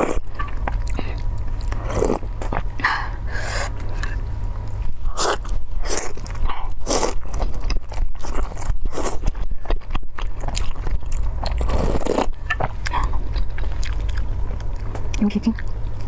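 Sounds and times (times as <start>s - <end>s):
crunchy chewing: 0.0s - 2.8s, 3.6s - 16.0s
steady low hum: 0.0s - 16.0s.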